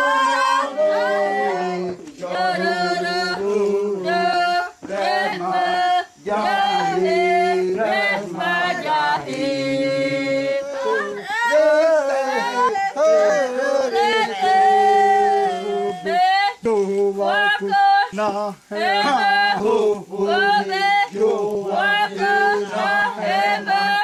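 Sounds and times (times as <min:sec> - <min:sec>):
group of voices chanting: 0:00.0 - 0:24.0.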